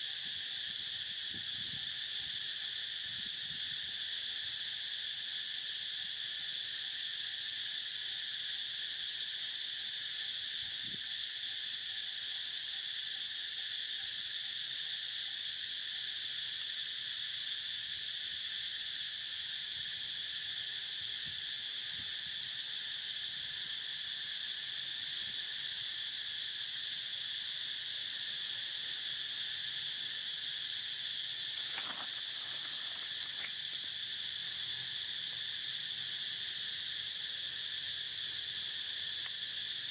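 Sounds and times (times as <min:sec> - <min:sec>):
insects trilling drone: 0:00.0 - 0:39.9.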